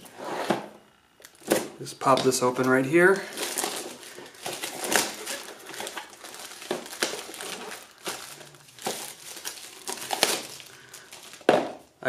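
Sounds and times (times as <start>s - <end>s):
plastic wrap crinkling: 1.2s - 11.9s.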